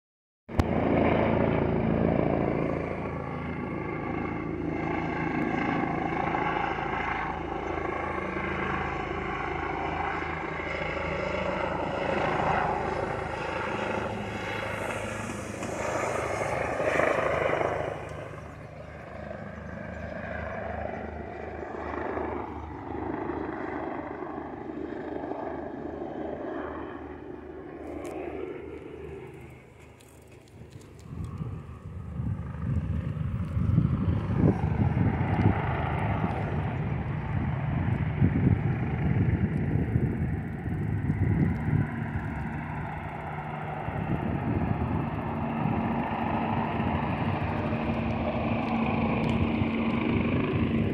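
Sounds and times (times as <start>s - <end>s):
helicopter rotor and engine: 0.5s - 50.9s.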